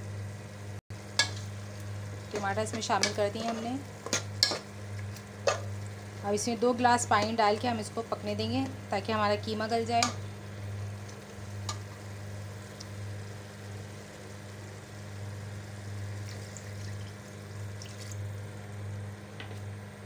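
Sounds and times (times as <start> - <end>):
steady low hum: 0.0 - 20.0
meat sizzling in a pot: 1.0 - 18.9.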